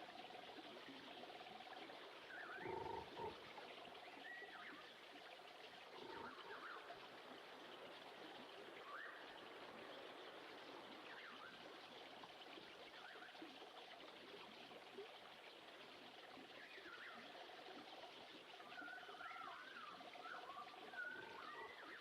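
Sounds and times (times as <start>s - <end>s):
trickling stream: 0.0s - 22.0s.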